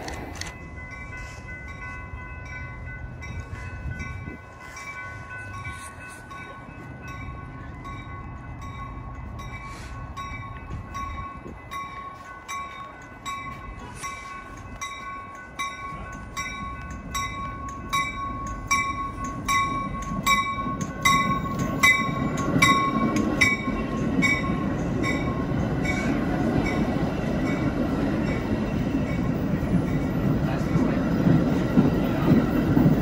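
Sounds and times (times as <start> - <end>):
train bell ringing: 0.0 - 33.0
train coaches rumbling: 0.0 - 33.0.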